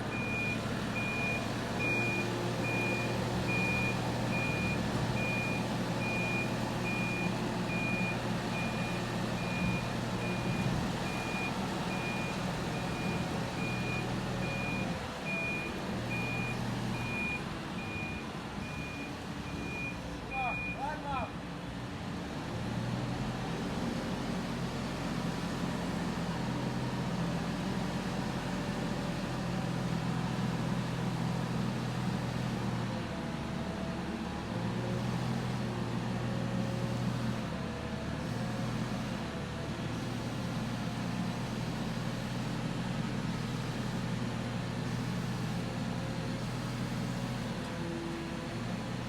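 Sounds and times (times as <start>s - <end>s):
heavy vehicle engine running: 0.0s - 20.3s, 21.4s - 49.0s.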